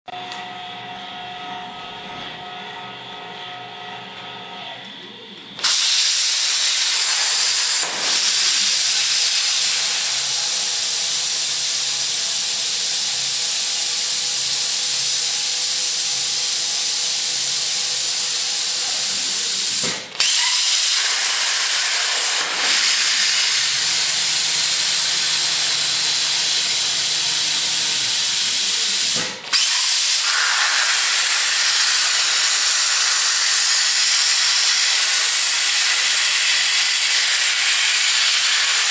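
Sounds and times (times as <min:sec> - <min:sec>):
plasma cutter hissing: 0:05.6 - 0:38.9.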